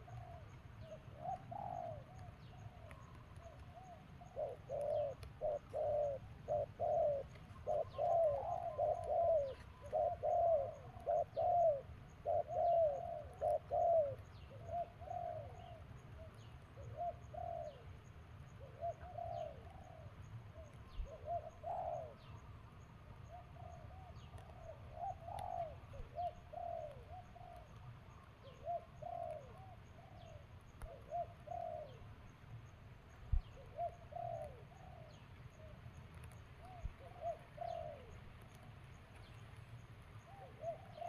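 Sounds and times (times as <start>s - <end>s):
bird cooing: 0.0s - 32.2s, 33.3s - 38.6s, 40.1s - 41.0s.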